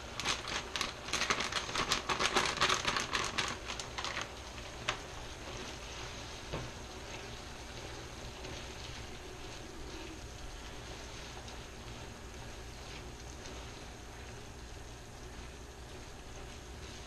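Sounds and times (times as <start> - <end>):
food crackling in a pan: 0.0 - 17.0
low sizzle: 0.0 - 17.0.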